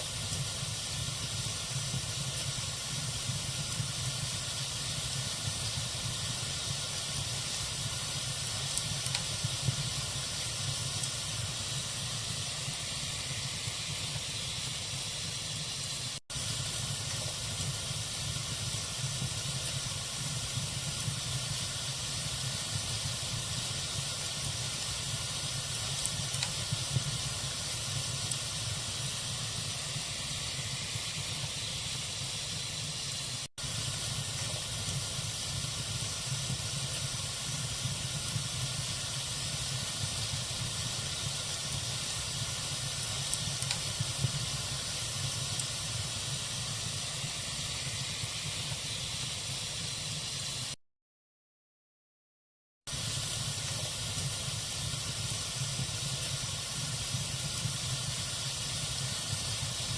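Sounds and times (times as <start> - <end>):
log fire hissing and crackling: 0.0 - 50.8, 52.9 - 59.9.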